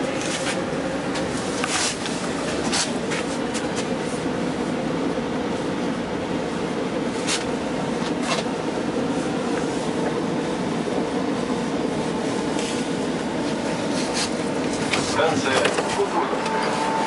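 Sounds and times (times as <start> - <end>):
electric train hum: 0.0 - 17.0.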